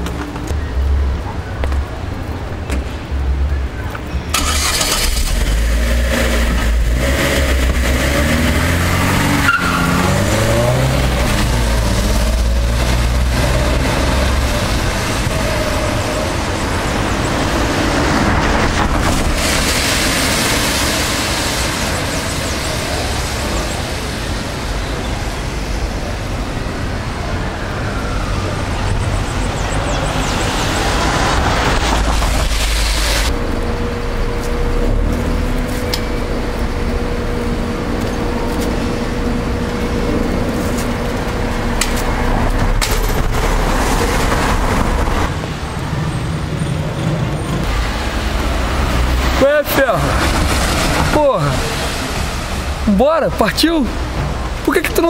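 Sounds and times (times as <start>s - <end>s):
road noise: 0.0s - 55.0s
car engine starting and revving: 4.3s - 24.4s, 28.0s - 52.8s.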